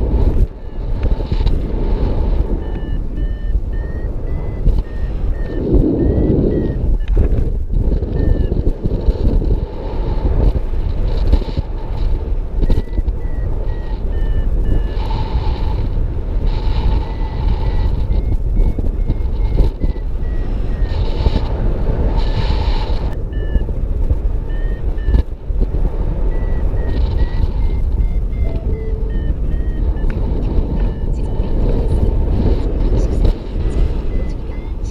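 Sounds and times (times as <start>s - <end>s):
variometer beeping: 0.0s - 9.6s, 10.4s - 34.9s
wind rushing on microphone: 0.0s - 34.9s.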